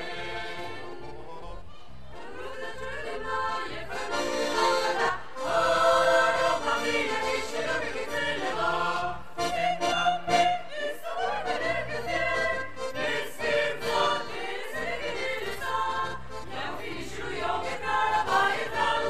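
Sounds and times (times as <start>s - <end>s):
mixed choir singing: 0.0s - 1.0s, 2.2s - 19.0s.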